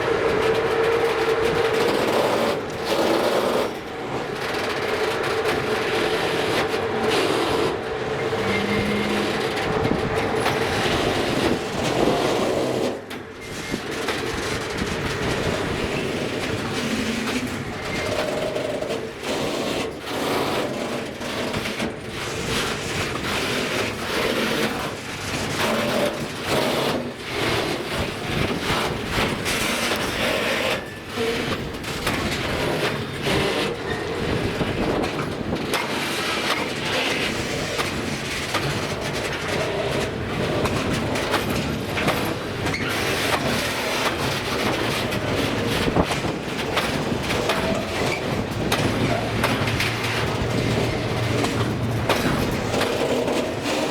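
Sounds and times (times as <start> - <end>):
train rumble: 0.0 - 53.9
train wheels clicking over rail joints: 0.0 - 53.9.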